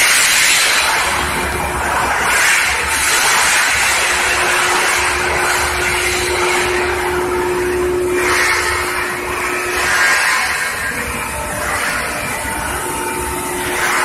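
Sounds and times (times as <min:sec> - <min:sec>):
low hum: 0:00.0 - 0:14.0
steady mid-pitched tone: 0:00.0 - 0:14.0.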